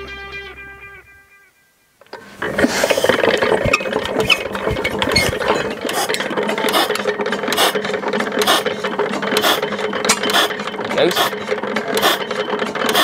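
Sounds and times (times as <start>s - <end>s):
valve gear clattering: 2.0s - 13.0s
stationary engine running: 2.2s - 13.0s.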